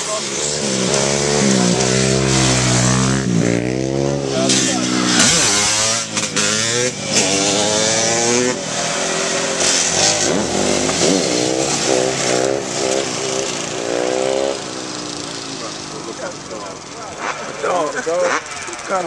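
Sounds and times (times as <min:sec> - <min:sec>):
motorbike engines revving hard: 0:00.0 - 0:19.0.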